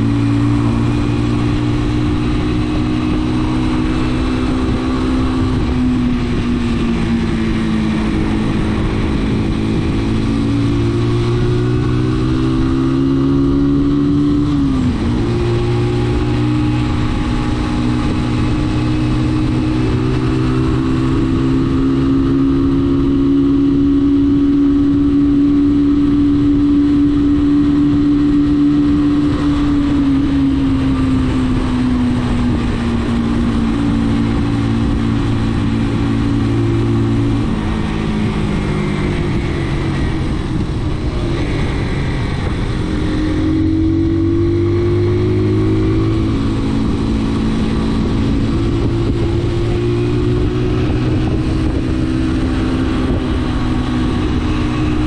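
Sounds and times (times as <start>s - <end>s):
motorcycle engine running: 0.0s - 55.0s
wind rushing: 0.0s - 55.0s.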